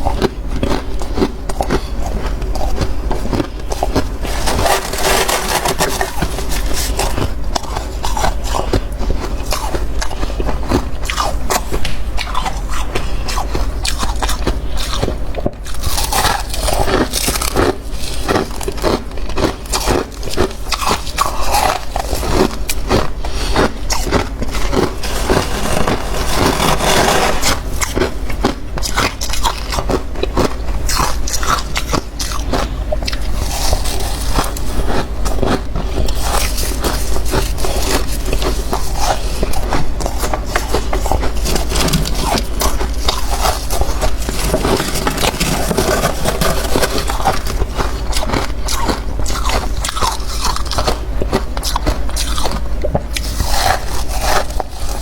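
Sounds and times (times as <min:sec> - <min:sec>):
chewing crunchy frost: 0:00.0 - 0:55.0.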